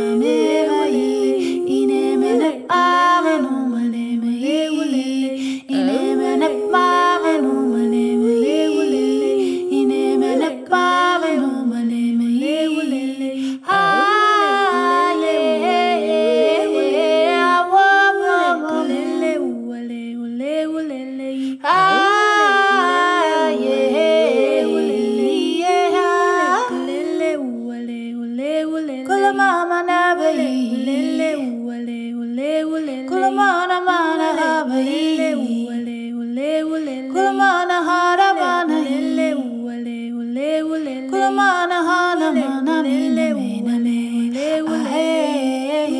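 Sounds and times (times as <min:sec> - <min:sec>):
a cappella voices singing in harmony: 0:00.0 - 0:45.9.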